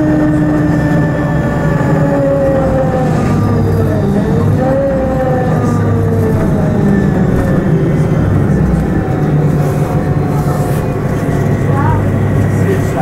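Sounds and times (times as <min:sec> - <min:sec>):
bus engine hum: 0:00.0 - 0:13.0
drivetrain whine: 0:00.0 - 0:13.0.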